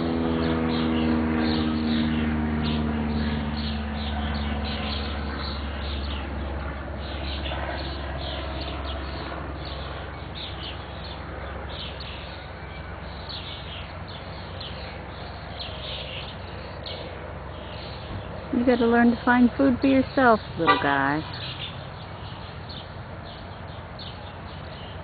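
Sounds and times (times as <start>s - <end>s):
low engine rumble: 0.0s - 25.0s.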